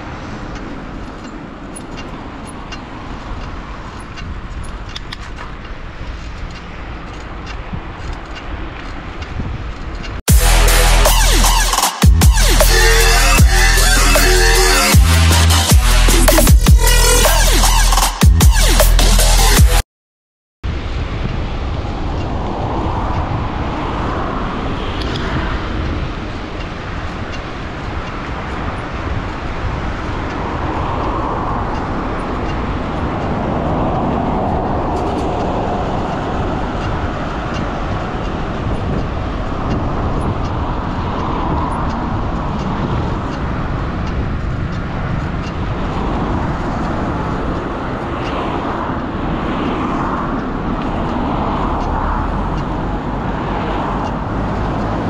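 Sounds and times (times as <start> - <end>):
road traffic passing: 0.0 - 19.8, 20.6 - 55.0.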